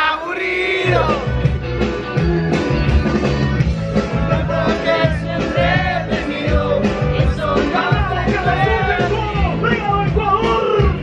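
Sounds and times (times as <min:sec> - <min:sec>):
rock music with singing: 0:00.0 - 0:11.0
bass line: 0:00.5 - 0:11.0.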